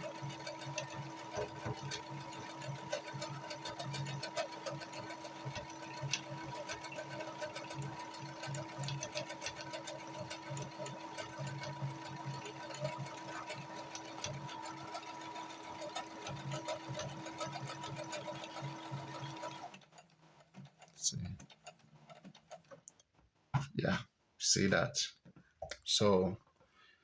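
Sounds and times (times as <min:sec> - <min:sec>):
sewing machine motor hum: 0:00.0 - 0:23.0
sewing machine needle clatter: 0:00.0 - 0:23.2.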